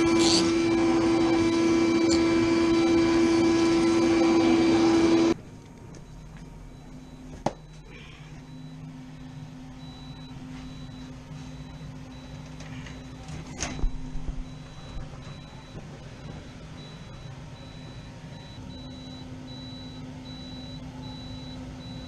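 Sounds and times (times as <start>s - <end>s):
hvac equipment humming: 0.0s - 22.0s.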